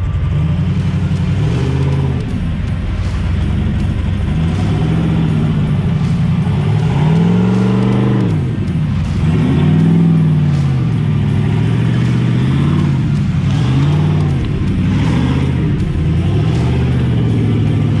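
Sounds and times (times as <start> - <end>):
engine revving under load: 0.0 - 18.0.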